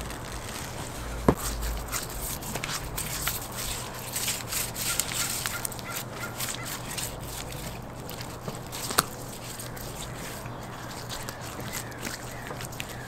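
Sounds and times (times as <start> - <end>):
gloved hands rubbing wet meat: 0.0 - 13.0.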